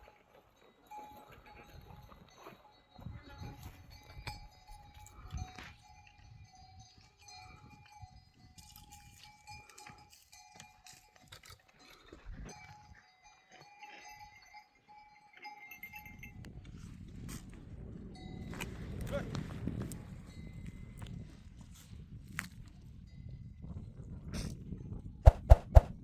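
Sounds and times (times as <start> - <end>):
goat bells ringing faintly: 0.0 - 22.0.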